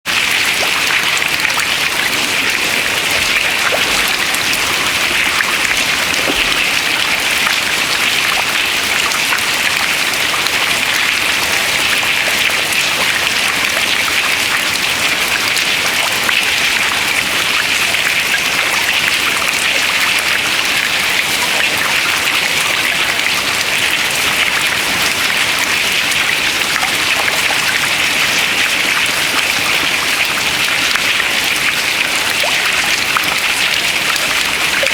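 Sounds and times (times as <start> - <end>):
water dripping into water: 0.1 - 34.9.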